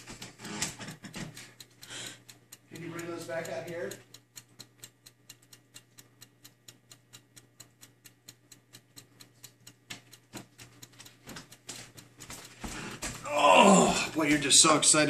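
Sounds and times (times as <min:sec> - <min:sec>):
rapid ticking: 0:00.0 - 0:15.0.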